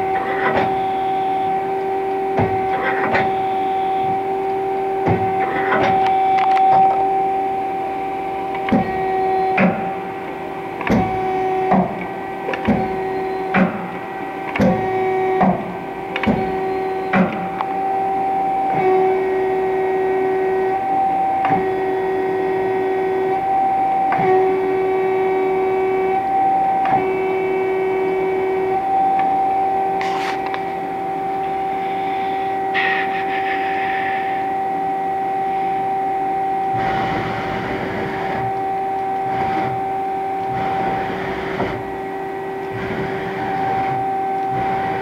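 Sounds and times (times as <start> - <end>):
lathe whine: 0.0 - 45.0.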